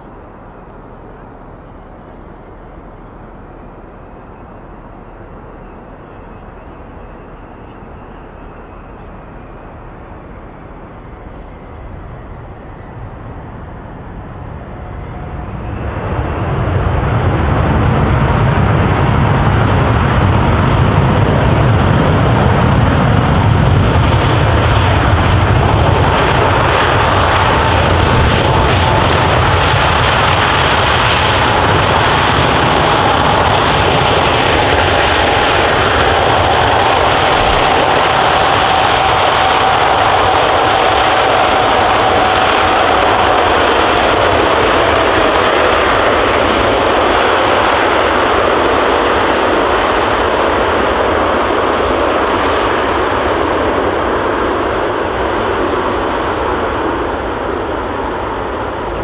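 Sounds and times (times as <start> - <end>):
engine whine: 0.0 - 59.0
jet engines roaring: 0.0 - 59.0.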